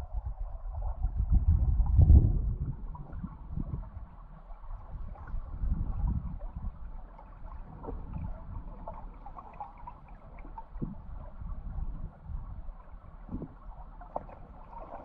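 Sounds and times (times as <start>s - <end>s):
faint ticks and gurgles: 0.0s - 15.0s
underwater river rumble: 0.0s - 15.0s.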